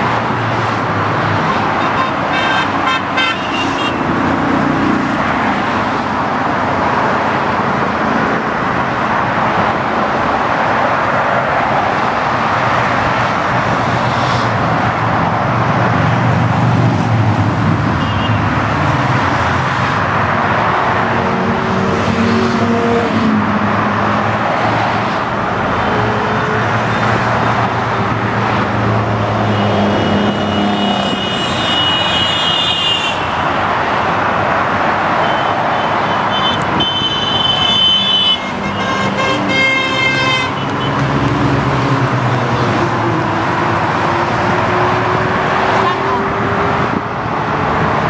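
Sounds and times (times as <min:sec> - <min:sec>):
road traffic: 0:00.0 - 0:48.0.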